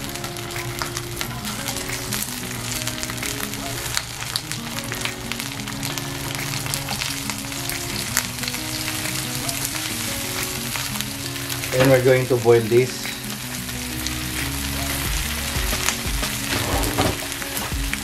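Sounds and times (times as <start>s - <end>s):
pork sizzling in frying pan: 0.0s - 18.0s.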